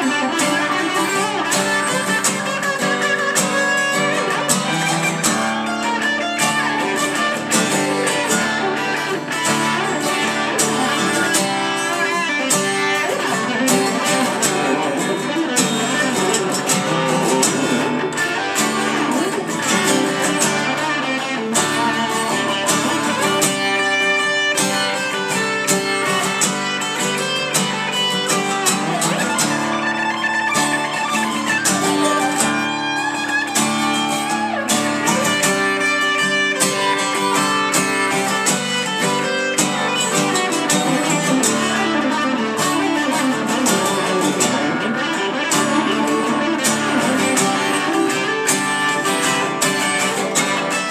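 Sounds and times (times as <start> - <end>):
instrumental guitar music: 0.0 - 50.9.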